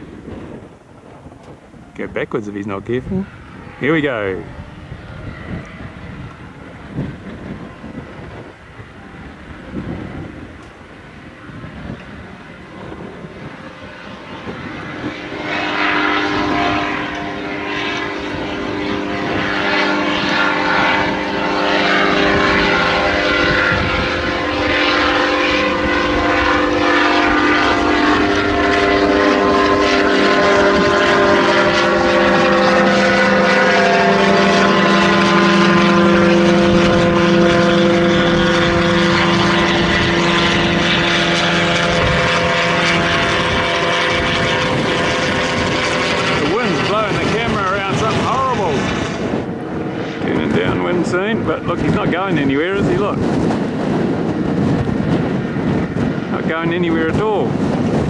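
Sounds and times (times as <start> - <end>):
aircraft engine and propeller drone: 0.0 - 58.0
wind buffeting microphone: 0.0 - 58.0.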